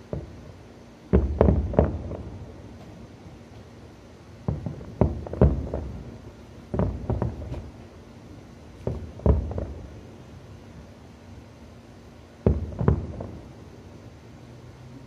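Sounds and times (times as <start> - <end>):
firework shells bursting: 0.0 - 11.0, 12.3 - 14.1.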